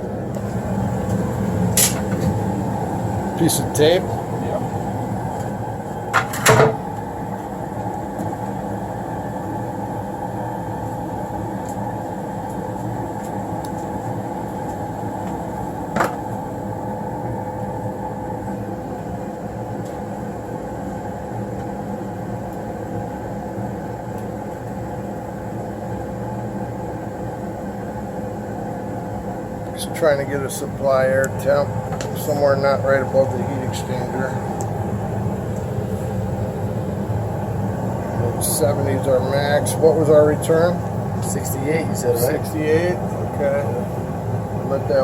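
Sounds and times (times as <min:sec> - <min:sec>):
furnace blower humming: 0:00.0 - 0:45.0.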